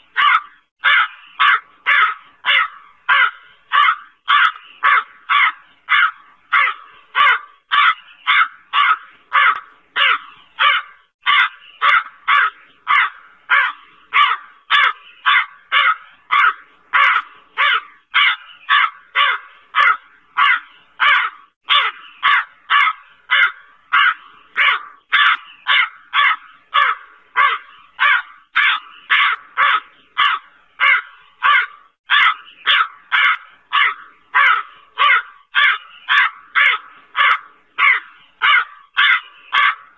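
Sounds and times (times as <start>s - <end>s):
crow cawing: 0.1s - 39.9s.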